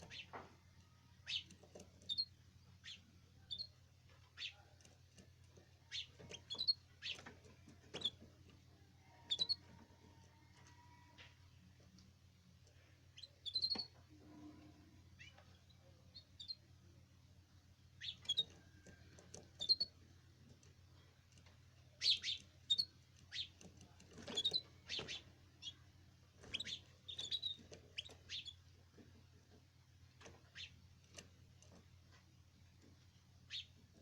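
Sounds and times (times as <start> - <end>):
canaries chirping: 0.0 - 16.9, 17.6 - 34.0
faint low hum: 0.0 - 34.0.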